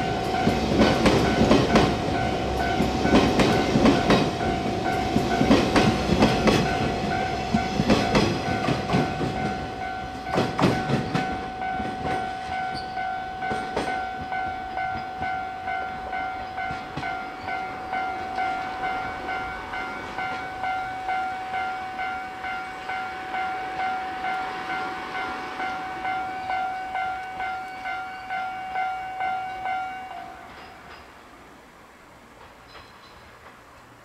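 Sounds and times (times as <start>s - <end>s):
level-crossing warning bell: 0.0s - 31.2s
train clacks: 0.0s - 31.5s, 32.1s - 34.0s.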